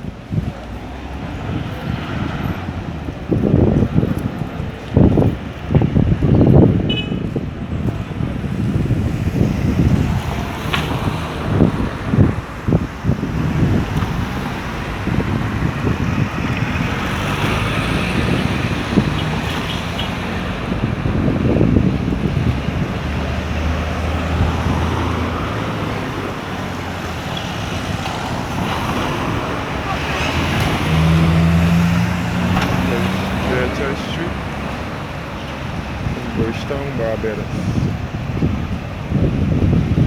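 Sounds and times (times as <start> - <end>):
vehicles passing: 0.0 - 40.0
wind buffeting microphone: 0.0 - 40.0.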